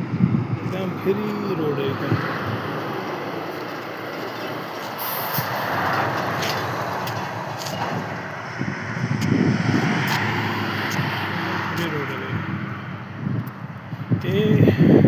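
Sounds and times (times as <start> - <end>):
vehicle road and engine noise: 0.0 - 15.0.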